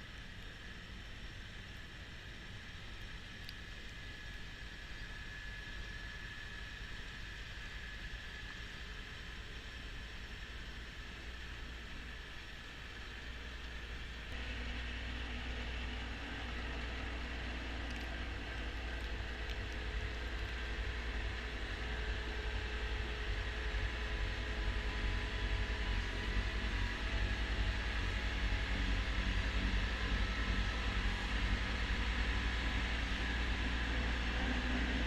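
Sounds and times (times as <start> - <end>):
tractor diesel engine with snowblower: 0.0 - 35.0.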